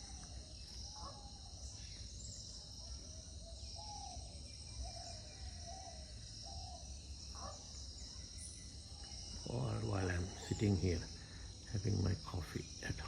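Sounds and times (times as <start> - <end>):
insect chirring: 0.0 - 13.0
soft bird calls: 0.0 - 13.0.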